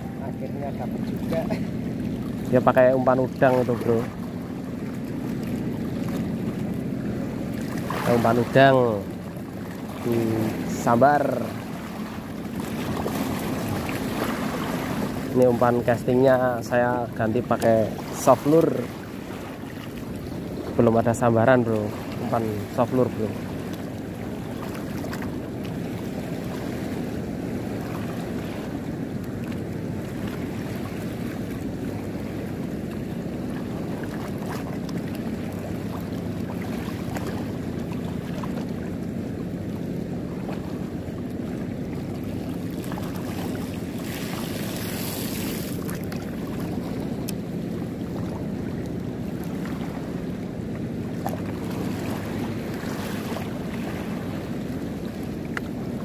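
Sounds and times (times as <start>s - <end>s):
sea water: 0.0s - 56.0s.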